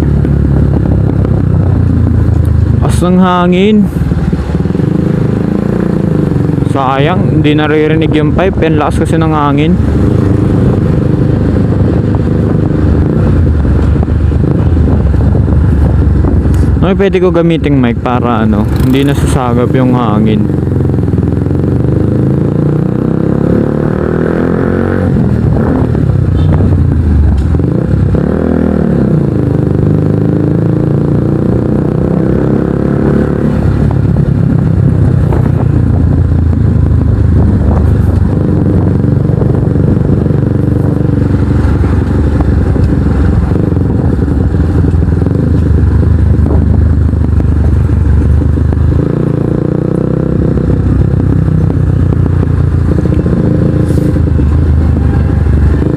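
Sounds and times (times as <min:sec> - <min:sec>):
motorcycle engine: 0:00.0 - 0:55.9
wind noise on microphone: 0:00.0 - 0:55.9.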